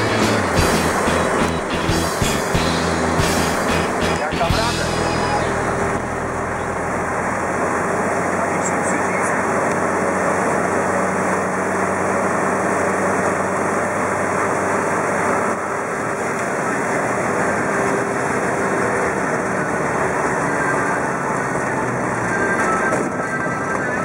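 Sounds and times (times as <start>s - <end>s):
car engine running: 0.0s - 23.3s
road noise: 0.0s - 24.0s.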